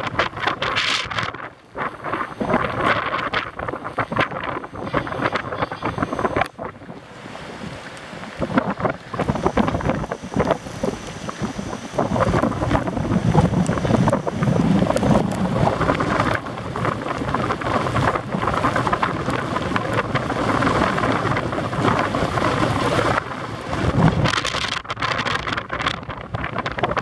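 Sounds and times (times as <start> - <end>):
wind gusting hard: 0.0 - 27.0.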